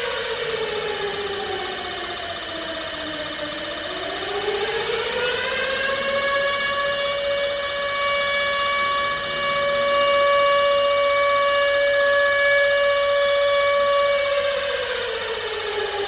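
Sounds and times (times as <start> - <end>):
civil defense siren wailing: 0.0 - 16.0.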